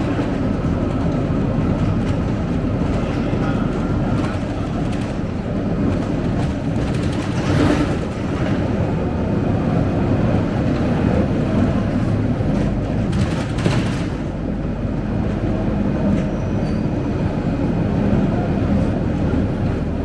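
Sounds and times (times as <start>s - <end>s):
bus body rattles: 0.0s - 20.0s
bus diesel engine: 0.0s - 20.0s
road noise: 0.0s - 20.0s.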